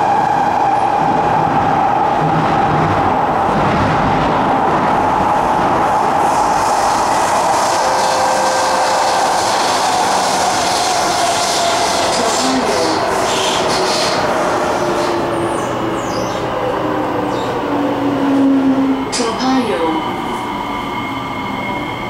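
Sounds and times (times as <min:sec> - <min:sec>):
train wheels on rails: 0:00.0 - 0:19.4.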